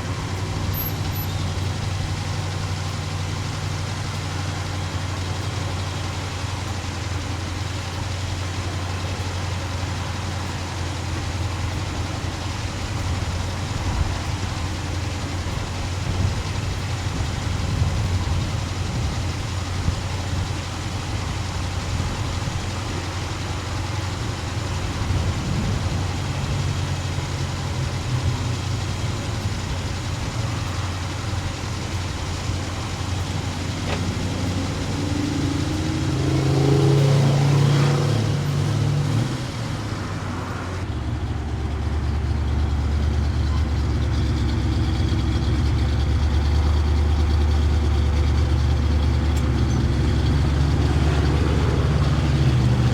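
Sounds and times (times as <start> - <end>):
engine idling rumble: 0.0 - 52.9.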